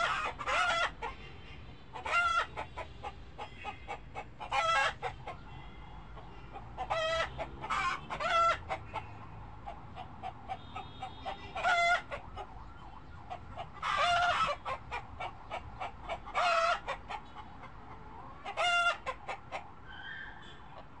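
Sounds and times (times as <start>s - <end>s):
chicken loud pitched calls: 0.0s - 1.1s, 2.0s - 5.5s, 6.5s - 12.6s, 13.3s - 20.8s
chicken clucking: 0.0s - 1.2s, 1.9s - 21.0s.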